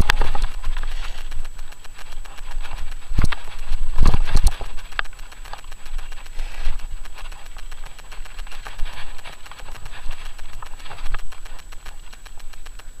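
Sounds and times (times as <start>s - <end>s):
bike rattling over bumps: 0.0s - 13.0s
bike tyres crunching on gravel: 0.0s - 13.0s.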